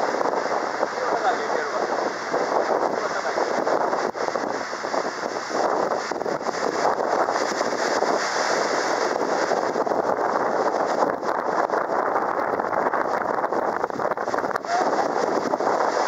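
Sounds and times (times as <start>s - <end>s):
boat and water noise: 0.0s - 16.0s
wind rushing on microphone: 0.0s - 16.0s.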